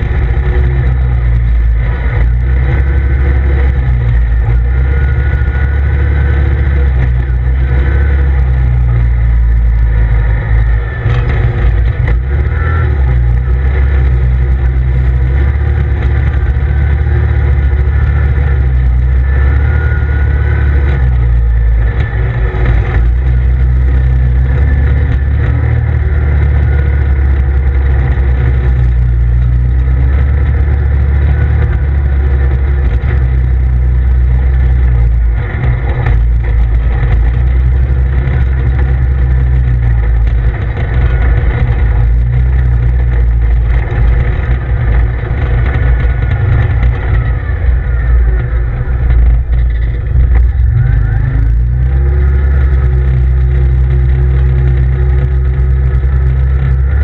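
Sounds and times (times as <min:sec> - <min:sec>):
off-road vehicle engine rumble: 0:00.0 - 0:57.0.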